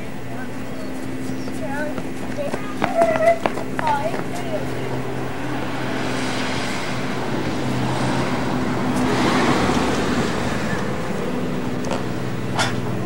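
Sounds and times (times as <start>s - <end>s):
car passing: 0.0s - 13.0s
steady low hum: 0.0s - 13.0s.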